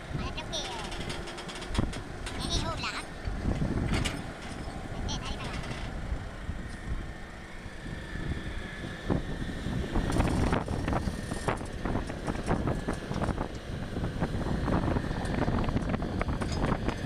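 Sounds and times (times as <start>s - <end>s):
diesel engine rumbling: 0.0s - 17.0s
wind on microphone: 0.0s - 17.0s.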